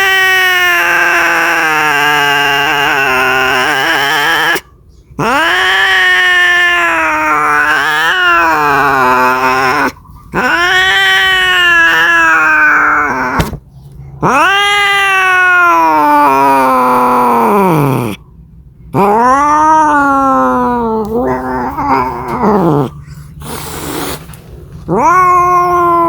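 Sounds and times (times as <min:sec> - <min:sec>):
cat yowling: 0:00.0 - 0:13.6, 0:14.2 - 0:18.2, 0:18.9 - 0:24.2, 0:24.9 - 0:26.0.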